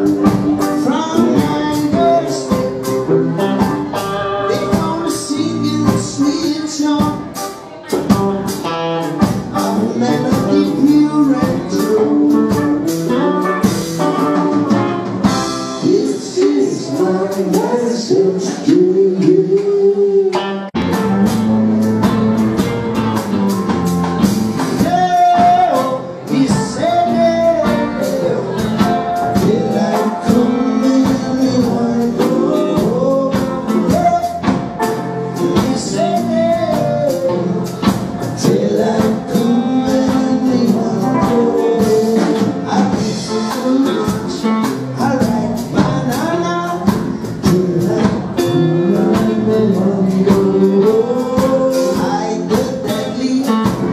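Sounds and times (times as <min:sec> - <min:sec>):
man singing: 0:00.0 - 0:22.7, 0:24.6 - 0:53.9
live rock band playing: 0:00.0 - 0:53.9.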